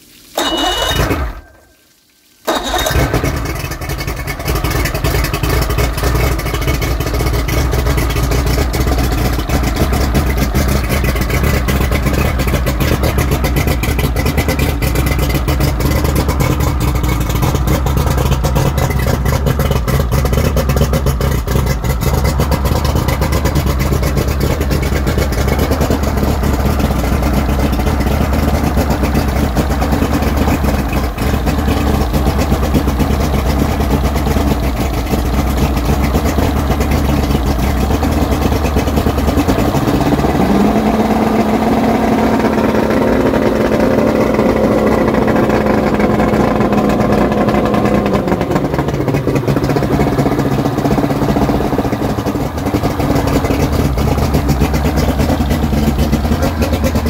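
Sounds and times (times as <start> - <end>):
outboard motor starting and running: 0.0 - 1.7, 2.4 - 57.0.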